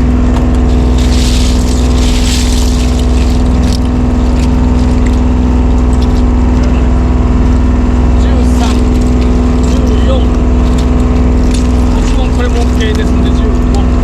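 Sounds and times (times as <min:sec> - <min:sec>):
boat engine low rumble: 0:00.0 - 0:14.0.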